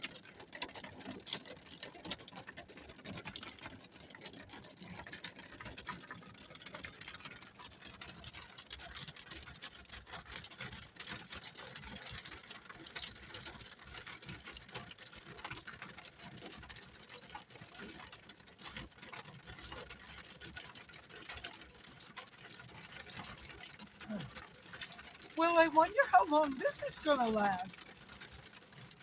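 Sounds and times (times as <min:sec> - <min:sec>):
hail and rain on car roof: 0:00.0 - 0:29.0.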